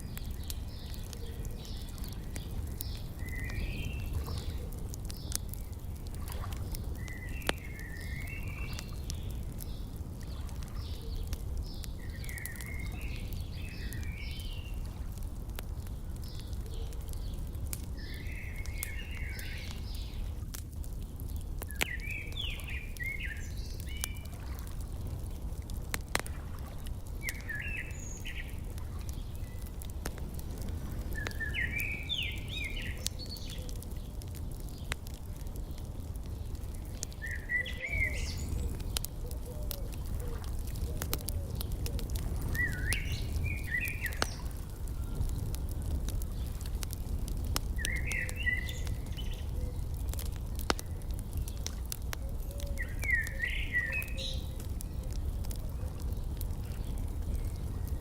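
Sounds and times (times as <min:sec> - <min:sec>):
songbird chirping: 0:00.0 - 0:15.0, 0:15.7 - 0:20.4, 0:21.2 - 0:25.5, 0:26.4 - 0:46.9, 0:47.6 - 0:58.0
wood fire crackling: 0:00.0 - 0:58.0.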